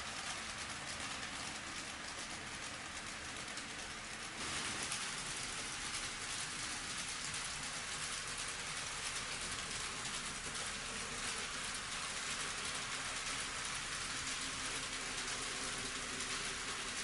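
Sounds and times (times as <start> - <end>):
model train wheels rolling on rails: 0.0 - 17.0.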